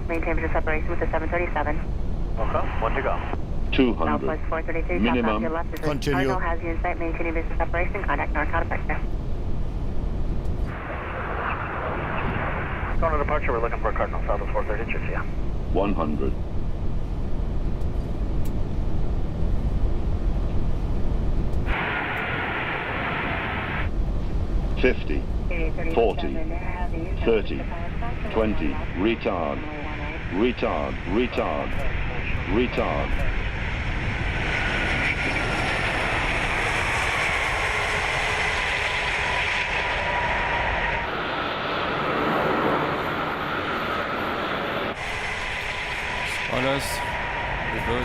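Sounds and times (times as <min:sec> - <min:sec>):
cockpit and airflow rumble: 0:00.0 - 0:48.0
steady rushing noise: 0:09.1 - 0:48.0.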